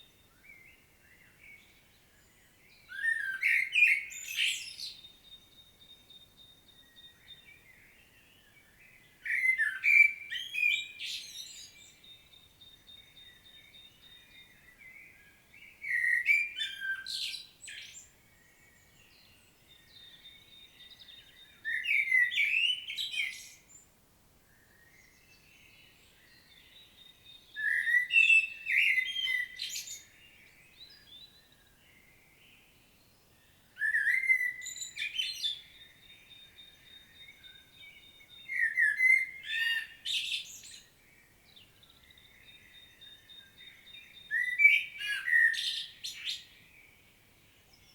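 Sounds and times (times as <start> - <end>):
blackbird singing: 0.0 - 23.9, 24.5 - 47.9.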